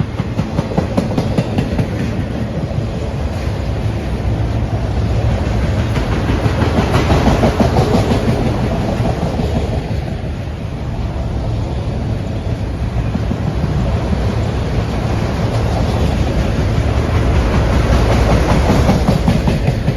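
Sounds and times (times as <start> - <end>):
freight train wheels rumbling: 0.0 - 19.9.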